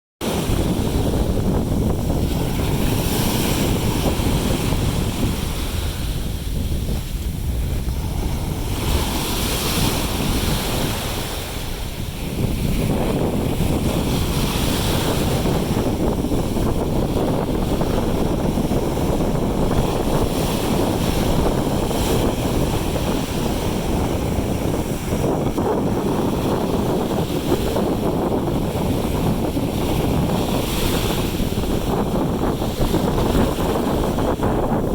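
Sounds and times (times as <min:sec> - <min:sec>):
jet ski rushing water and spray: 0:00.2 - 0:34.9
wind buffeting microphone: 0:00.2 - 0:34.9.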